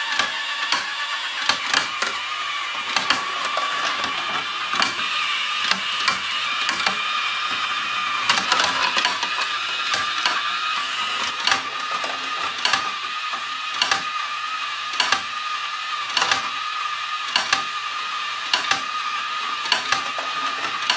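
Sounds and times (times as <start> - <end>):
small motor whining: 0.0 - 20.9.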